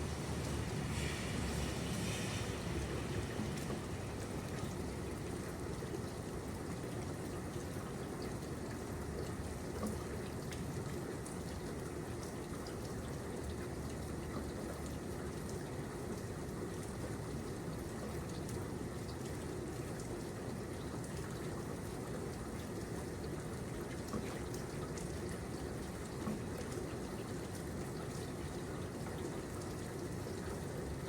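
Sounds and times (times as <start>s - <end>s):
raindrops ticking on surfaces: 0.0s - 31.0s.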